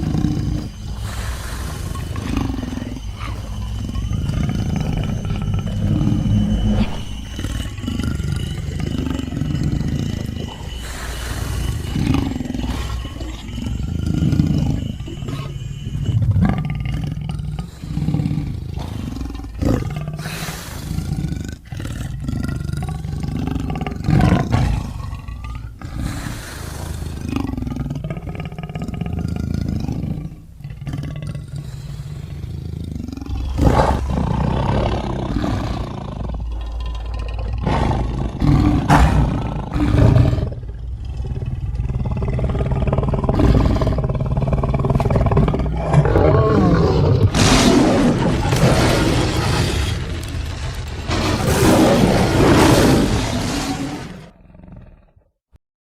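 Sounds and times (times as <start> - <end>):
big cat roars and growls: 0.0 - 55.4.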